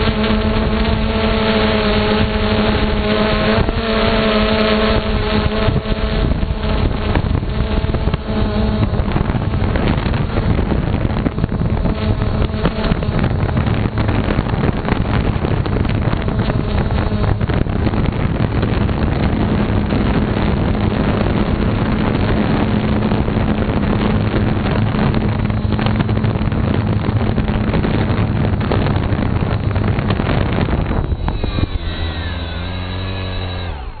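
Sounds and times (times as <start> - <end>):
drone motors buzzing: 0.0 - 34.0
wind rushing over microphone: 0.0 - 34.0.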